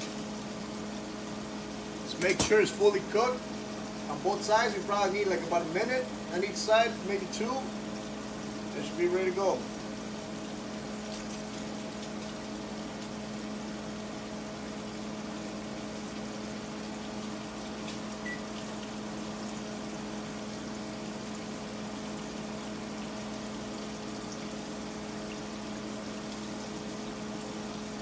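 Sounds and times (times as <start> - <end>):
exhaust fan humming: 0.0 - 28.0
fish frying in oil: 0.0 - 28.0.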